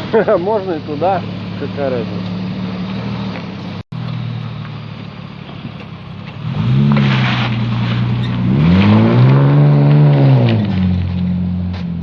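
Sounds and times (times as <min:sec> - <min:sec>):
engine accelerating: 0:00.0 - 0:12.0.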